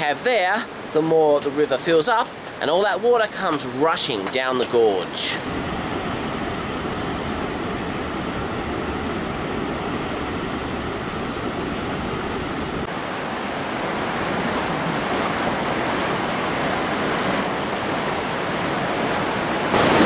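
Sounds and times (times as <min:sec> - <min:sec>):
floodwater rushing: 0:03.6 - 0:20.0.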